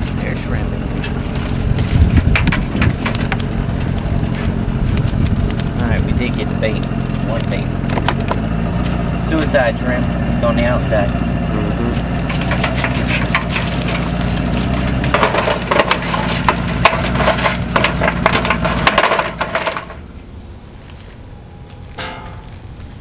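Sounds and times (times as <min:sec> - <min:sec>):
shrimp crackling in bucket: 0:00.0 - 0:20.0
steady low hum: 0:00.0 - 0:23.0.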